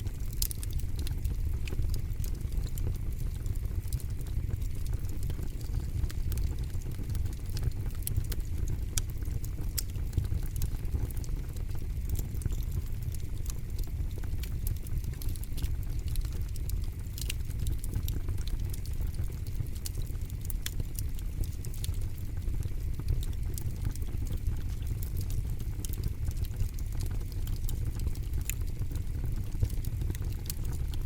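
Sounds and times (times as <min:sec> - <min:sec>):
burning wood crackling and popping: 0:00.0 - 0:31.0
low rumble of flames: 0:00.0 - 0:31.0.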